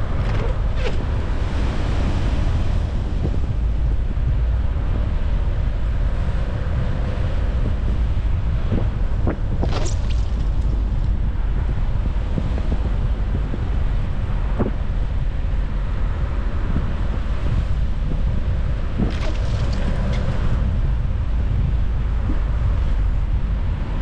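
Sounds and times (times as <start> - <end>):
tyre and road rumble: 0.0 - 24.0.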